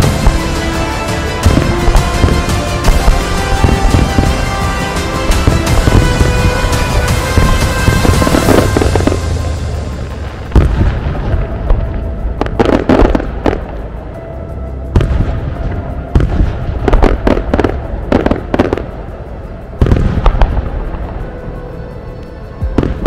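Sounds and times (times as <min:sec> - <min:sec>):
fireworks bangs and crackling: 0:00.0 - 0:13.8, 0:14.9 - 0:19.1, 0:19.8 - 0:21.2, 0:22.7 - 0:23.0.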